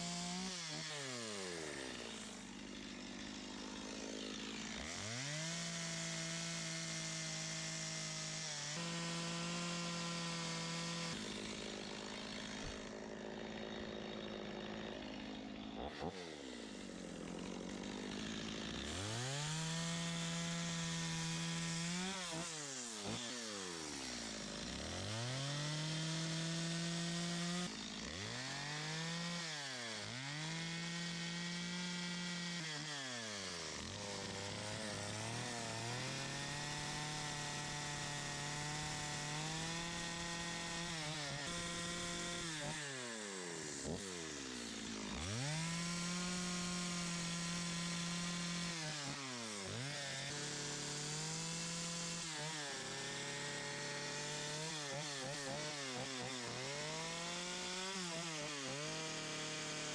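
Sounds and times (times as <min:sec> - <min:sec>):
chainsaw carving wood: 0:00.0 - 0:59.9.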